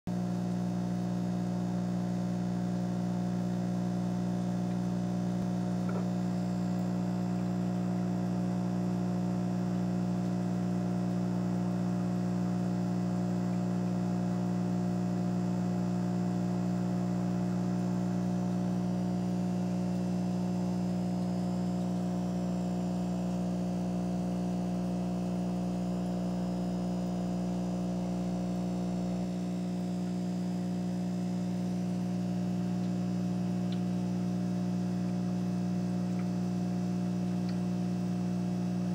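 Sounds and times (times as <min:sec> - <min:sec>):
aquarium equipment humming: 0:00.1 - 0:38.9.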